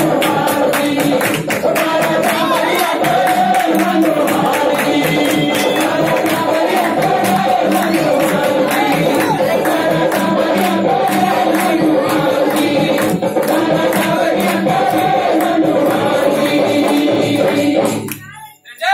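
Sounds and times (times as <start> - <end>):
jingling percussion beat: 0.0 - 18.7
person singing devotional song: 0.0 - 18.9.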